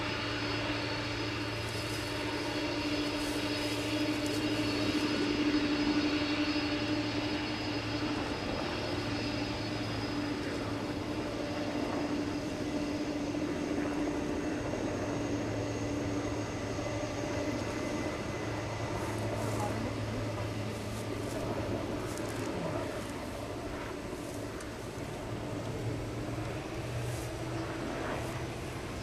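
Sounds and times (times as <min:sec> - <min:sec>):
jet engines whining: 0:00.0 - 0:29.0.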